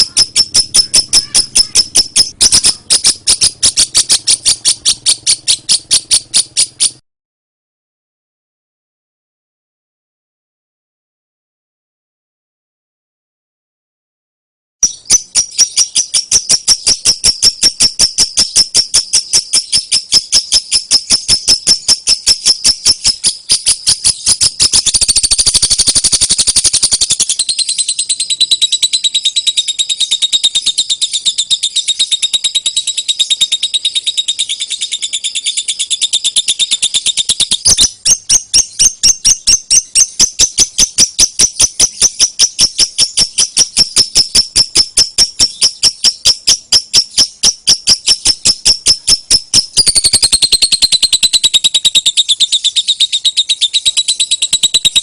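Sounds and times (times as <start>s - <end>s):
lovebird chattering trill: 0.0s - 7.0s, 14.8s - 55.0s.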